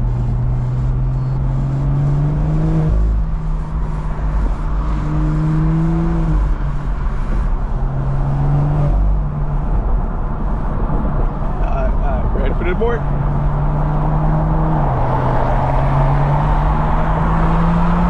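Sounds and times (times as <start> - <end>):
car engine accelerating: 0.0 - 18.0
road noise: 0.0 - 18.0.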